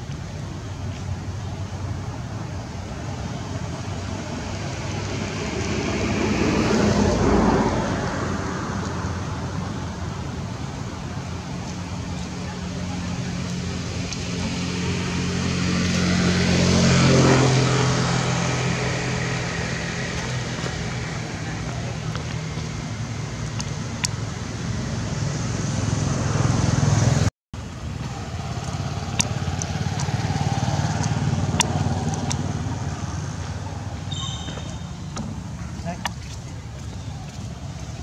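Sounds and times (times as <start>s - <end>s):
vehicle engine passing: 1.6s - 38.0s.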